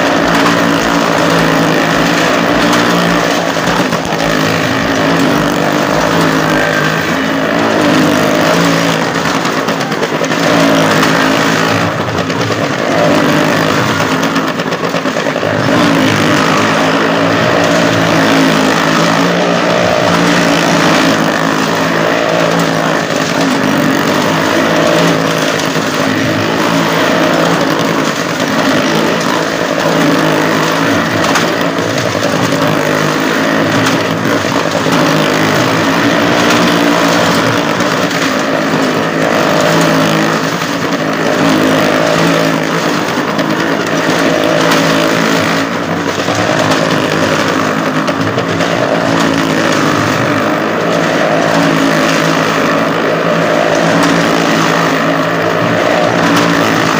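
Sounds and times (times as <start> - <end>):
motorcycle engines running hard: 0.0 - 56.9.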